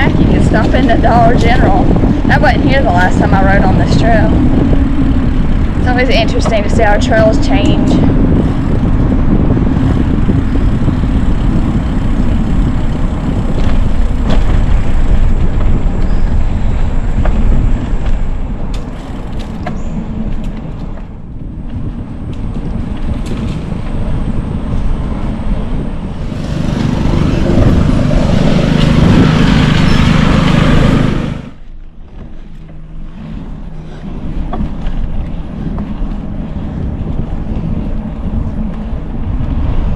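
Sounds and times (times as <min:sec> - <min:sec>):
bicycle tyres rolling: 0:00.0 - 0:39.9
low steady hum: 0:00.0 - 0:39.9
wind buffeting microphone: 0:00.0 - 0:39.9.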